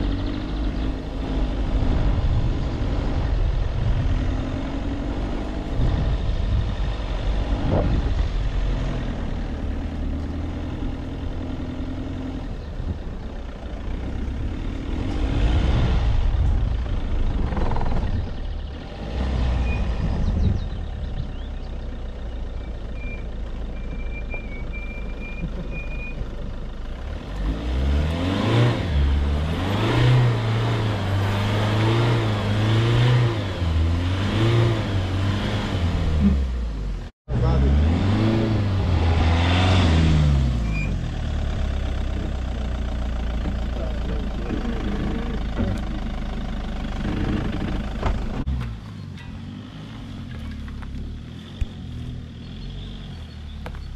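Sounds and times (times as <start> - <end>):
car engine running: 0.0 - 53.9
tyres rumbling over rough ground: 0.0 - 53.9.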